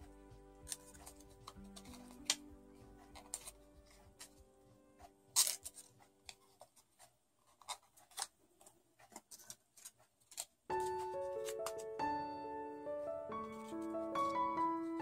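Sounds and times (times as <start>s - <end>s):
paper rustling and crackling: 0.6s - 4.4s, 5.0s - 12.0s, 13.4s - 15.0s.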